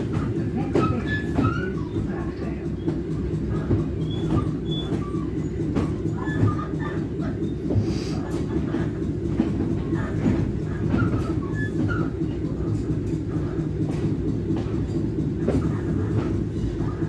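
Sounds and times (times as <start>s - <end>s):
carriage rattles and squeaks: 0.0s - 7.8s, 8.7s - 17.0s
train wheels rumbling: 0.0s - 17.0s.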